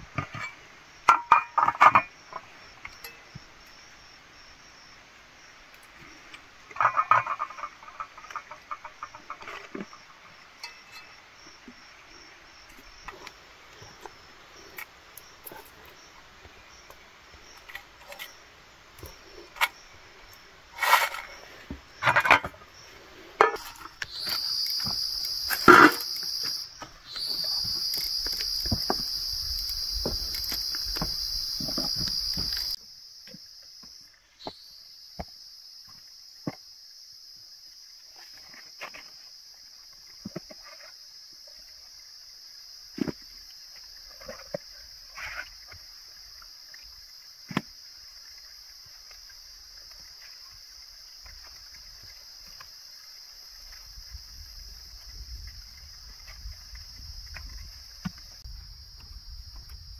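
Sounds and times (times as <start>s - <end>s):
insects buzzing: 0.3s - 59.9s.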